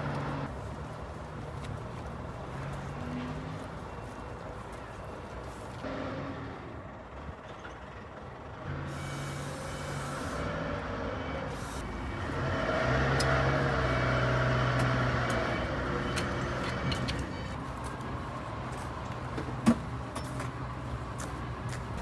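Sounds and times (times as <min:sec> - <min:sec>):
large vehicle engine running: 0:00.0 - 0:22.0.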